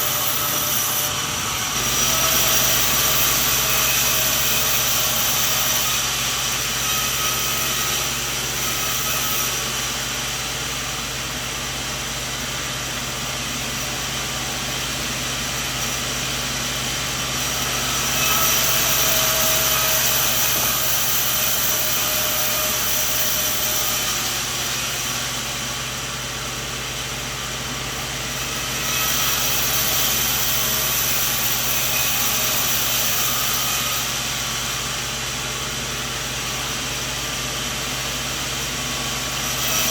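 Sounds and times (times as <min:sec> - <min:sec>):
sawmill machine humming: 0:00.0 - 0:39.9.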